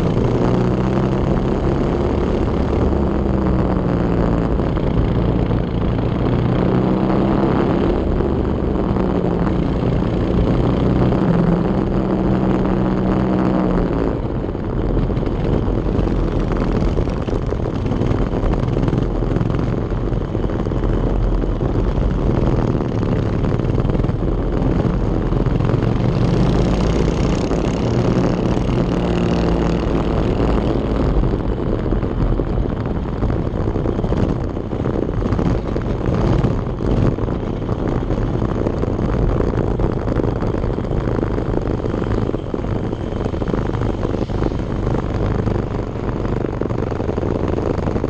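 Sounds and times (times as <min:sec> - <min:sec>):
go-kart engine running: 0:00.0 - 0:48.0.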